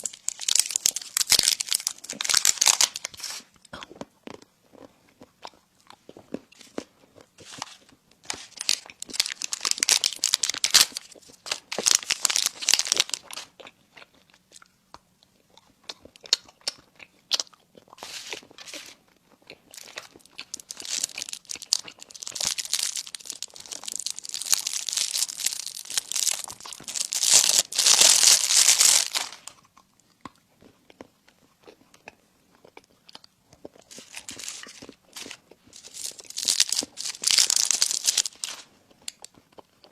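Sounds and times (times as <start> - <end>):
crunching bites and chewing: 0.0 - 39.9.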